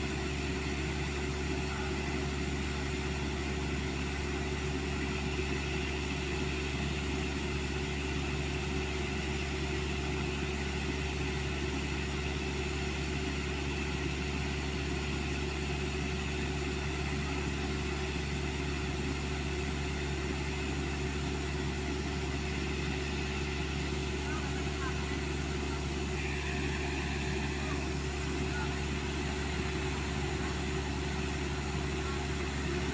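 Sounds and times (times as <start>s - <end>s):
diesel engine droning: 0.0s - 32.9s.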